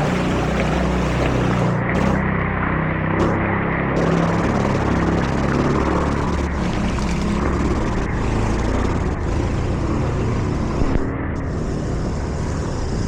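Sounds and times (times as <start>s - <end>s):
continuous rushing noise: 0.0s - 13.0s
vehicle engine running: 0.0s - 13.0s.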